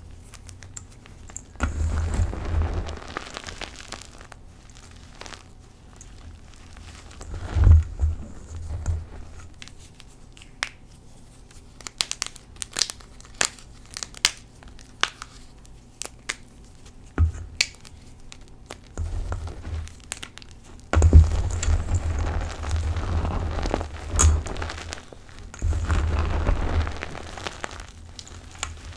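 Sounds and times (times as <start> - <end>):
hands crunching chalk powder: 0.2 - 10.8, 11.4 - 28.9.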